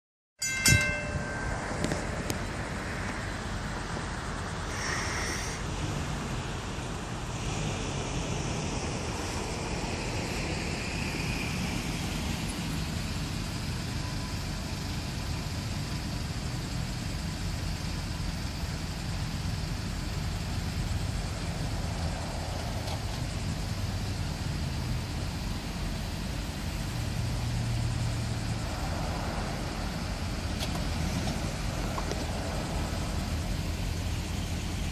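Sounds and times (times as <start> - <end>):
low engine rumble: 0.4 - 34.9
road traffic noise: 0.4 - 34.9.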